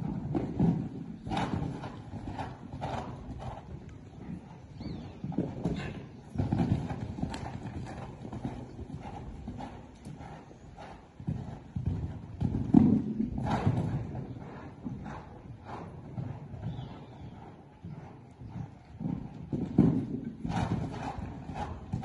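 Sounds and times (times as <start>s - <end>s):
horse hoofbeats cantering on sand: 0.0s - 22.0s.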